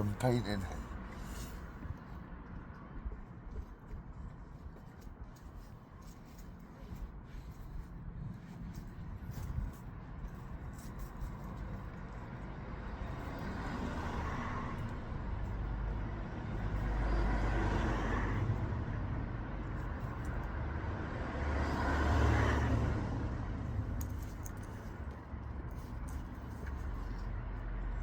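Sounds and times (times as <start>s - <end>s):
steady low traffic rumble: 0.0s - 28.0s
vehicles passing: 0.0s - 28.0s.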